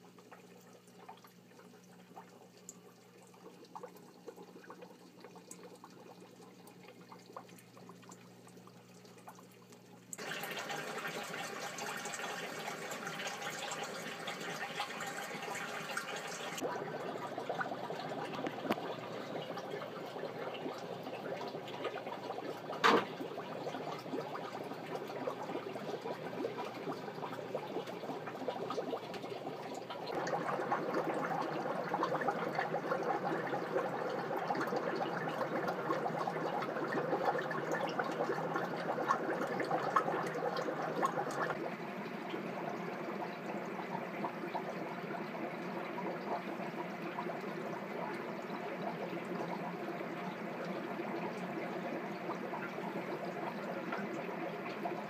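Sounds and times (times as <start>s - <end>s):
aquarium water running and splashing: 0.0s - 55.0s.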